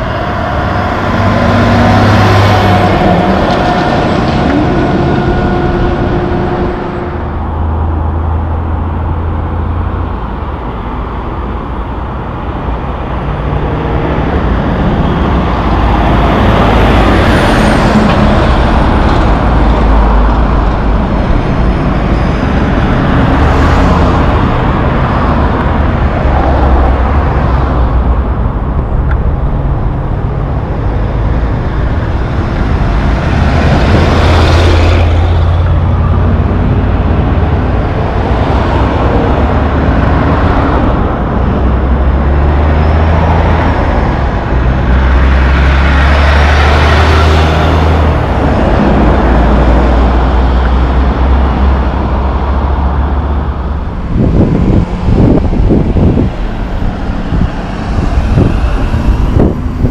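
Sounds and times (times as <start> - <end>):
trucks and cars passing: 0.0 - 59.9.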